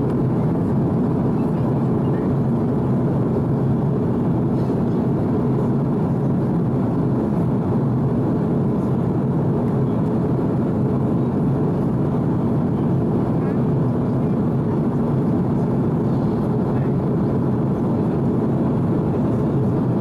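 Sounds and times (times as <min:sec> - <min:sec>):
airplane cabin engine rush: 0:00.0 - 0:20.0.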